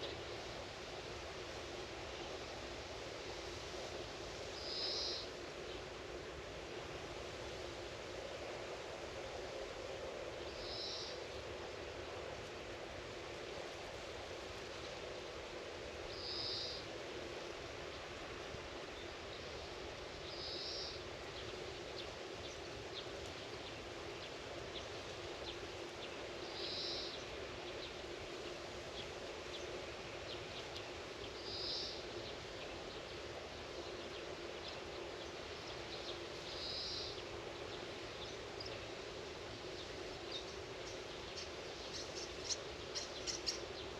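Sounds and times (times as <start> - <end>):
low background hum: 0.0 - 43.9.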